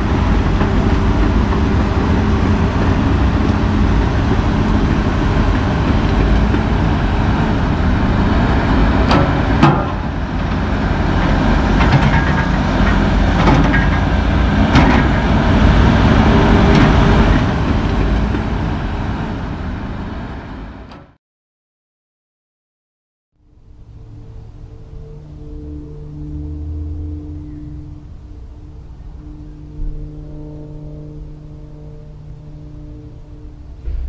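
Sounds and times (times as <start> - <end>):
heavy diesel engines: 0.0 - 21.2, 23.6 - 34.0
trailer metallic clanks: 0.0 - 21.2, 23.8 - 34.0.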